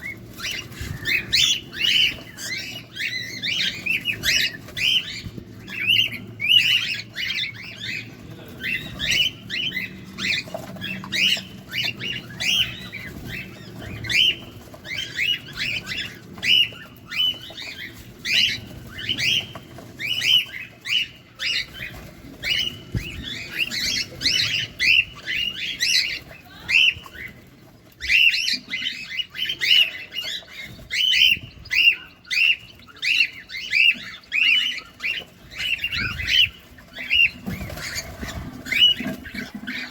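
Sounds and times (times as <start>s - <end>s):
cockatiels raspy chirps: 0.0s - 39.9s.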